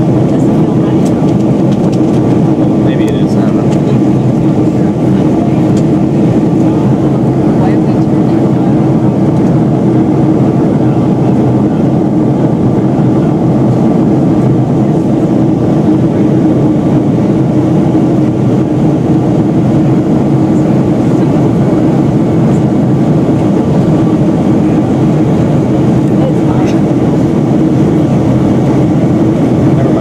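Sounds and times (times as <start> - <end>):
jet engines roaring in cabin: 0.0 - 30.0
steady cabin hum: 0.0 - 30.0.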